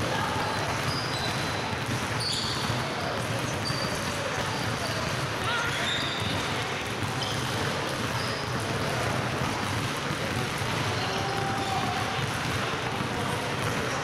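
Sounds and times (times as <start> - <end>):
basketballs bouncing on wooden floor: 0.0 - 14.0.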